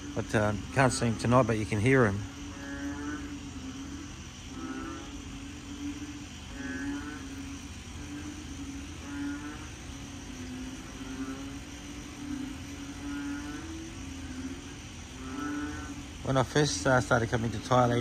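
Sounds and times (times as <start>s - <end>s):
frogs croaking: 0.0s - 18.0s
steady background hiss: 0.0s - 18.0s.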